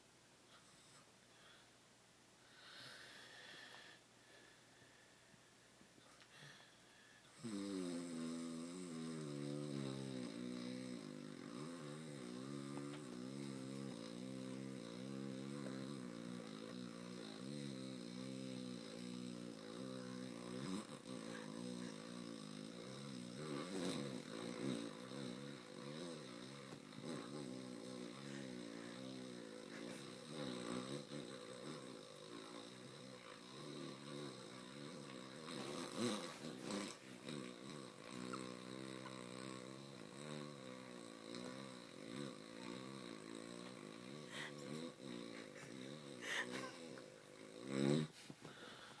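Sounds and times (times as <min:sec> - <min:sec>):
person snoring: 0:06.4 - 0:49.0.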